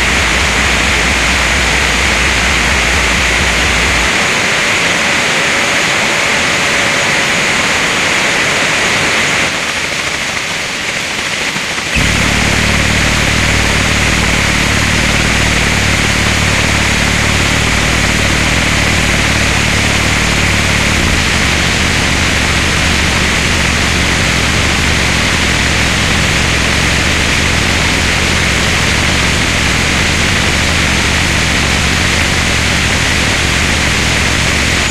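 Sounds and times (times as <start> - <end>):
heavy low buzzing rumble: 0.0 - 9.5, 11.9 - 34.9
loud static hiss: 0.0 - 34.9.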